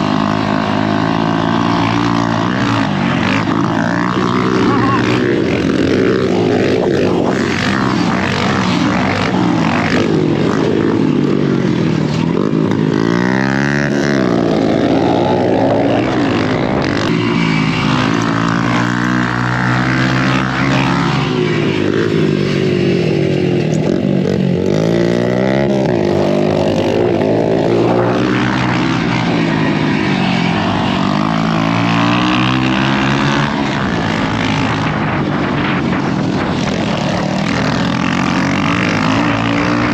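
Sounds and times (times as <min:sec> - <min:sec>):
dirt bike engine revving: 0:00.0 - 0:39.9
rush of noise: 0:00.0 - 0:39.9.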